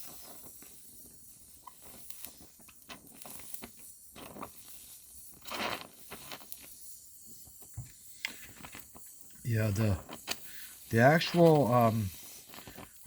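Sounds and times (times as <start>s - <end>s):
torch hiss: 0.0s - 13.0s
welding torch crackles: 0.0s - 13.0s.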